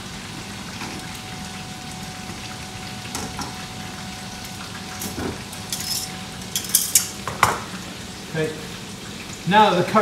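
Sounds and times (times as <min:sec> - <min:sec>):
chicken deep-frying in hot oil: 0:00.0 - 0:10.0.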